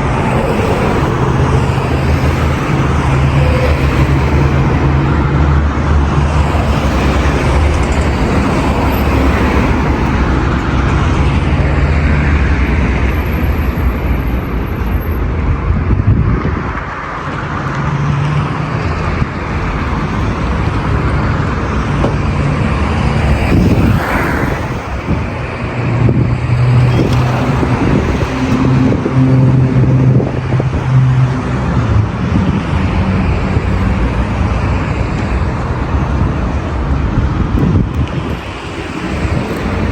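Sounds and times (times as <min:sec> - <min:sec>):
car engines and tyre noise: 0:00.0 - 0:39.9
vehicles passing close by: 0:00.0 - 0:39.9.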